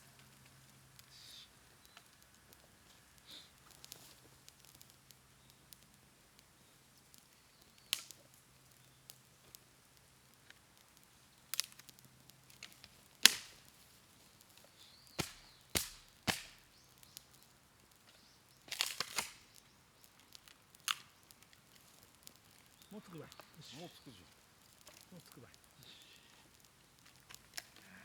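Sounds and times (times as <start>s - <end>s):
bamboo cracking and popping in fire: 0.0s - 28.0s.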